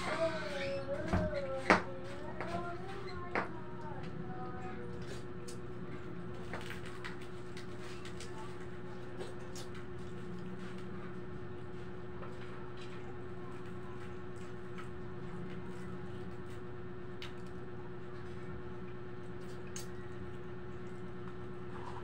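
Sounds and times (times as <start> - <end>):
electric fan hum: 0.0 - 22.0.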